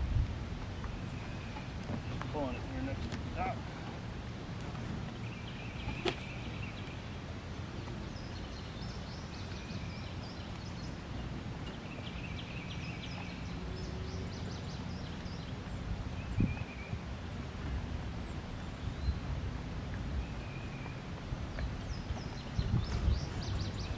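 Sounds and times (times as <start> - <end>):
steady low rumble: 0.0 - 23.9
small birds trilling: 0.9 - 23.9.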